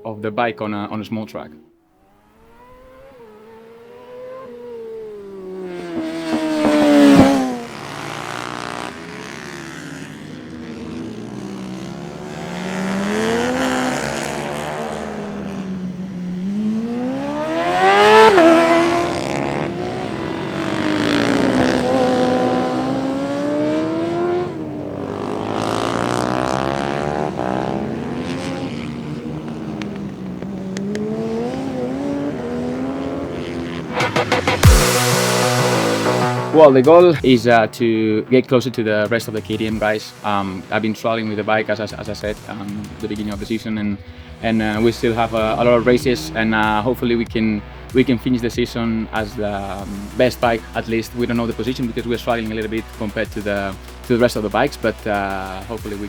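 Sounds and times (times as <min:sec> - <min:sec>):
motorcycle engine revving: 0:02.0 - 0:37.7, 0:39.3 - 0:56.0.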